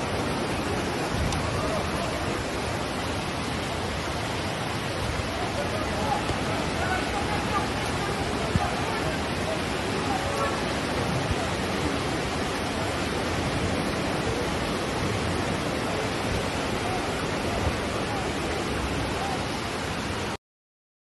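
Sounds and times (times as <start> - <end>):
floodwater torrent roaring: 0.0 - 20.4.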